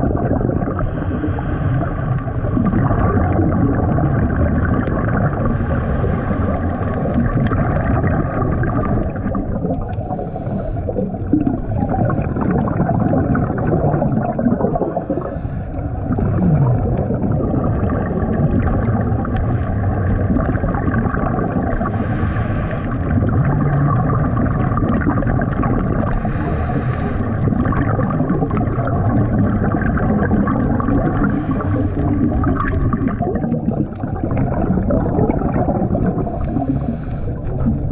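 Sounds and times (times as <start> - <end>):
regulator bubbles rushing: 0.0 - 37.9
underwater rumble and gurgling: 0.0 - 37.9.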